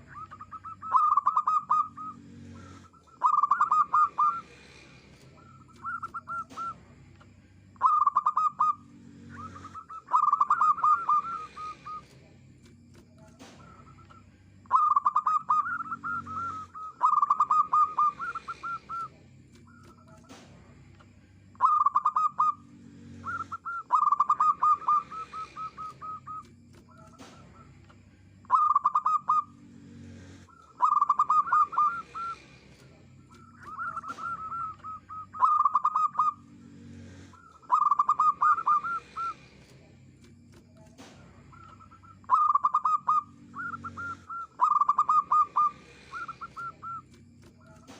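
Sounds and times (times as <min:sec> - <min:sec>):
dove cooing: 0:00.0 - 0:06.8, 0:07.8 - 0:12.2, 0:13.0 - 0:20.4, 0:21.5 - 0:27.7, 0:28.4 - 0:39.8, 0:41.0 - 0:47.9.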